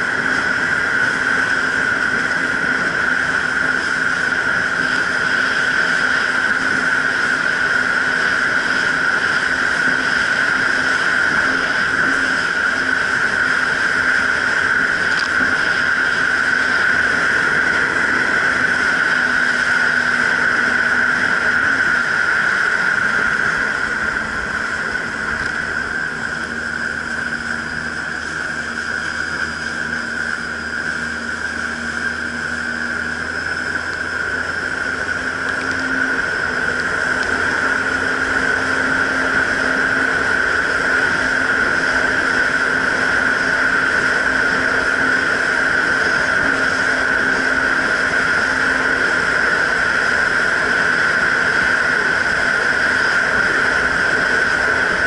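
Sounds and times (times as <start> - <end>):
high whine: 0.0 - 55.0
jet ski engine running: 0.0 - 55.0.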